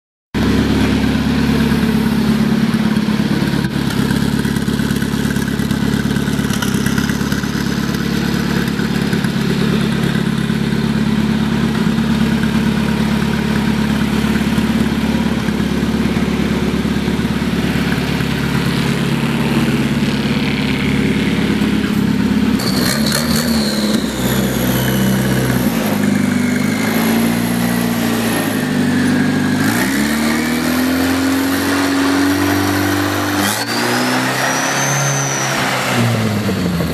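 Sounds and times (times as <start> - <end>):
tractor engine running: 0.4 - 36.9
high whine falling in pitch: 6.8 - 36.6.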